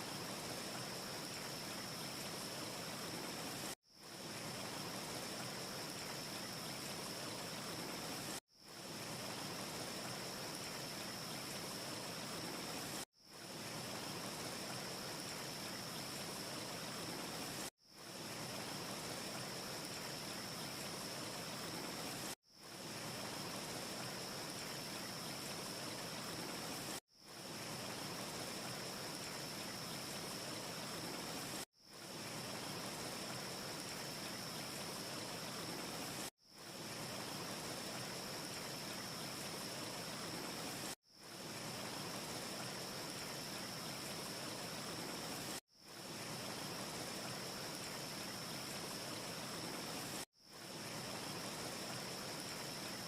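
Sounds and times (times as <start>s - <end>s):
steady ambience hiss: 0.0s - 53.0s.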